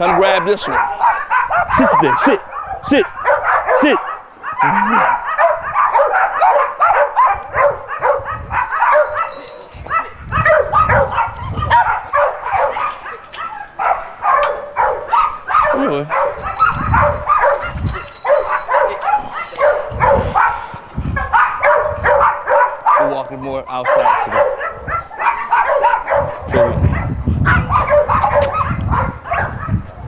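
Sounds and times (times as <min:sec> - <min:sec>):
many dogs barking: 0:00.0 - 0:30.0.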